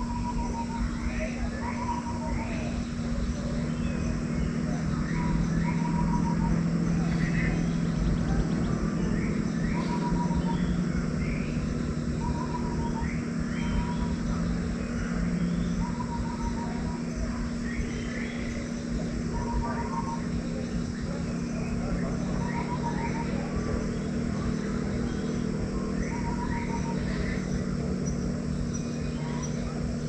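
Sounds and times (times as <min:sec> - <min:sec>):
short pulsed bird call: 0:00.0 - 0:30.0
steady low hum: 0:00.0 - 0:30.0.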